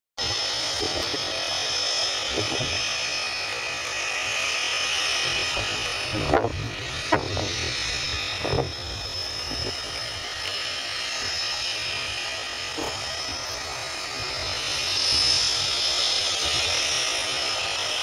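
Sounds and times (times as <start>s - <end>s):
high whine: 0.2s - 18.0s
plane engine drone: 0.2s - 18.0s.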